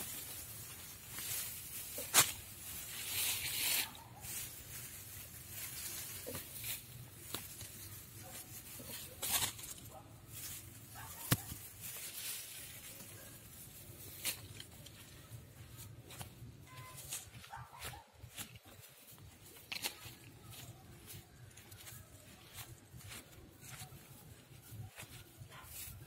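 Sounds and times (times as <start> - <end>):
hand scraping through dry soil: 0.0 - 26.0.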